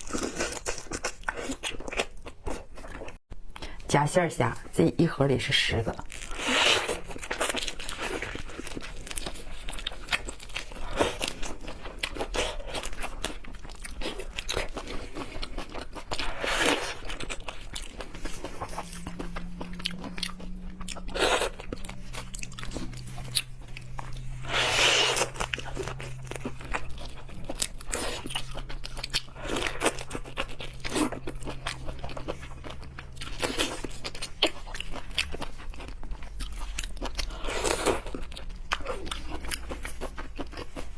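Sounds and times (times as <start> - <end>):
crunchy bites and chewing: 6.1 - 40.9.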